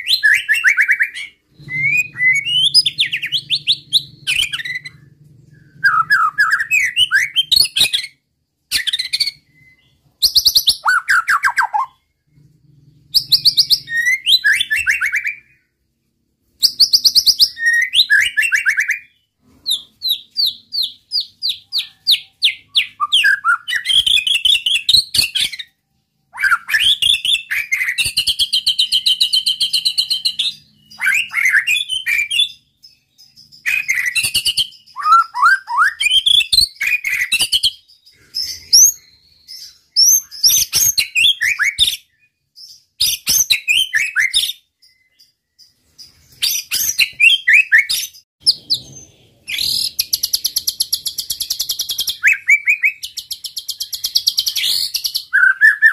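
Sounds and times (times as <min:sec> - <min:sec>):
bird whistling and trilling: 0:00.0 - 0:12.2, 0:13.1 - 0:15.6, 0:16.6 - 0:55.9.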